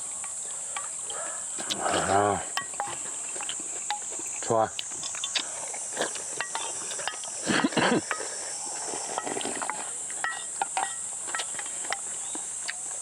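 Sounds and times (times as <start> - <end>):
eating noises: 0.0 - 10.6, 11.2 - 13.0
insects buzzing: 0.0 - 13.0
utensils clicking on bowls: 0.0 - 13.0.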